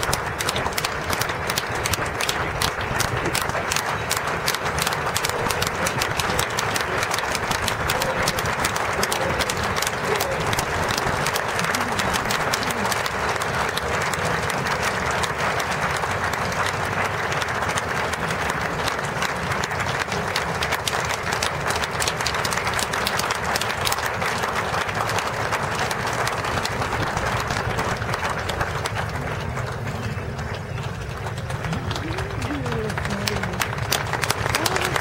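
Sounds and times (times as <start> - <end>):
crowd applauding: 0.0 - 35.0.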